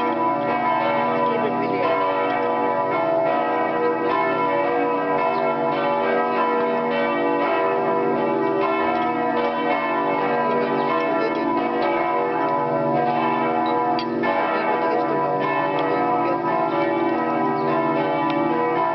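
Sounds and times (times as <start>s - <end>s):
church bells ringing: 0.0s - 18.9s.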